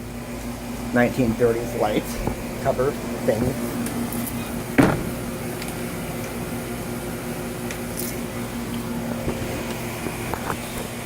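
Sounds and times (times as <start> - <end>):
electrical hum: 0.0 - 11.0
room noise: 0.0 - 11.0.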